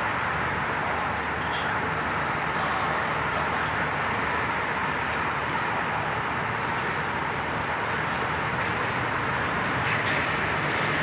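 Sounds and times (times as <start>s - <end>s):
passing road traffic: 0.0s - 11.0s
train rumbling on bridge track: 0.0s - 11.0s.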